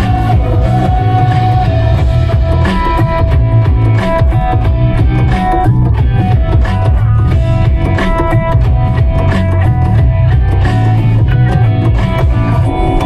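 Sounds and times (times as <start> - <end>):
guitar music: 0.0 - 13.0
steady drum beat: 0.0 - 13.0.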